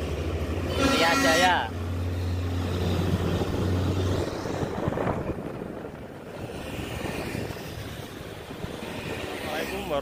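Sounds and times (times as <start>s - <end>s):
truck engine drone: 0.0s - 10.0s
tyre and road rush: 0.0s - 10.0s.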